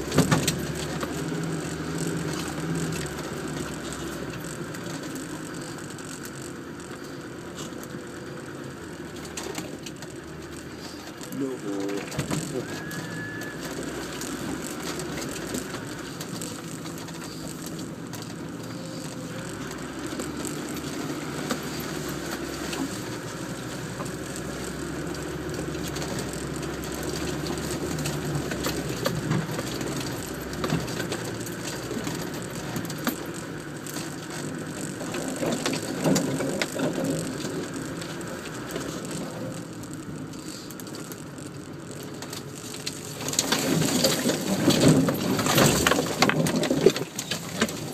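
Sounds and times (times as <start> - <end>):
engine at low revs: 0.0 - 47.9
vehicle body rattling: 0.0 - 47.9.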